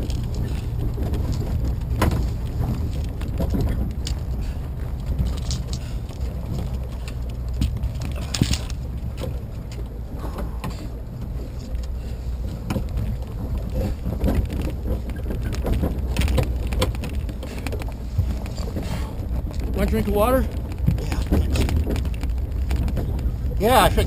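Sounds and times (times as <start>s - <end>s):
vehicle engine running at low revs: 0.0s - 24.0s.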